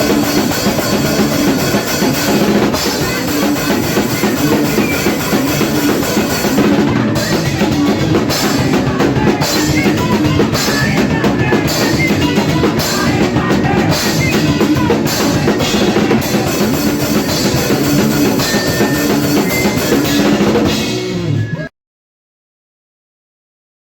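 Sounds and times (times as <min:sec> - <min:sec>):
drums pounding: 0:00.0 - 0:21.6
punk band playing: 0:00.0 - 0:21.7.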